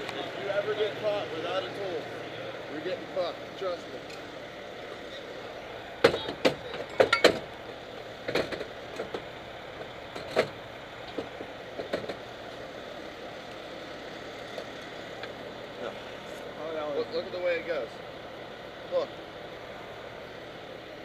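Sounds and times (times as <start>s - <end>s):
vehicle rumble: 0.0s - 21.0s.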